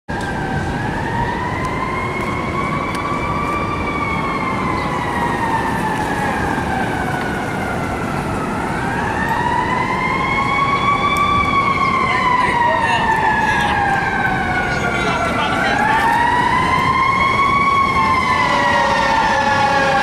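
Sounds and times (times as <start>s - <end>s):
road and engine noise: 0.1s - 20.0s.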